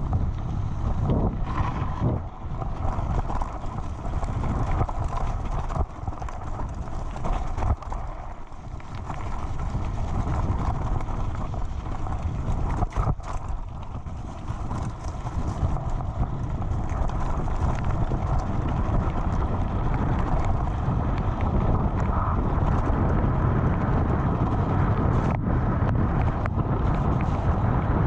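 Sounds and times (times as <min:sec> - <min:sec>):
bike rattling: 0:00.0 - 0:28.0
bike tyres crunching on gravel: 0:00.0 - 0:28.0
steady low rumble: 0:00.0 - 0:28.0.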